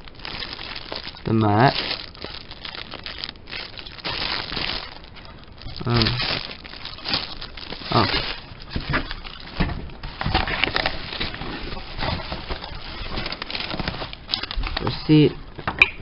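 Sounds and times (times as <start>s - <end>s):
packaging crinkling and rustling: 0.0s - 15.8s.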